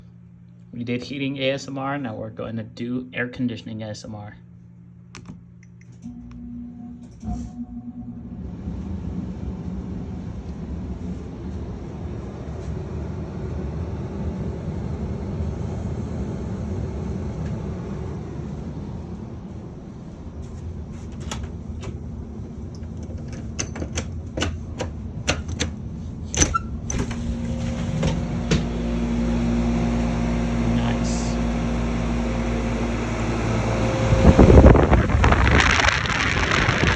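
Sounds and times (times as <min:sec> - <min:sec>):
steady low hum: 0:00.0 - 0:36.9
furnace blower rushing air: 0:07.0 - 0:36.9.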